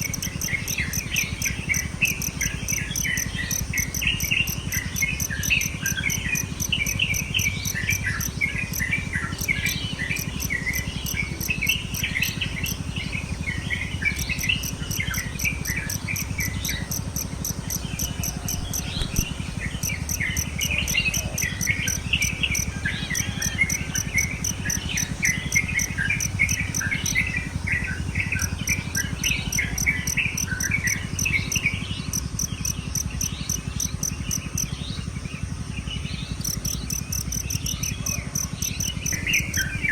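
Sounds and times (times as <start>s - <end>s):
cricket chirping: 0.0s - 39.9s
songbirds chattering: 0.0s - 39.9s.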